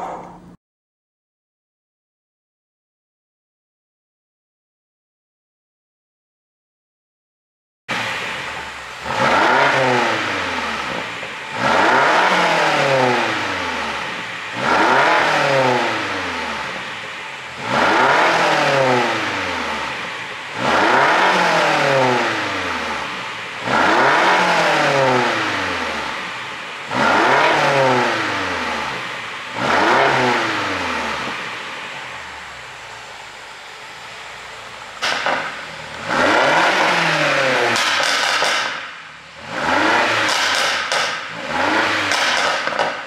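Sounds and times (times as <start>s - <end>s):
car engine revving: 7.9s - 43.0s.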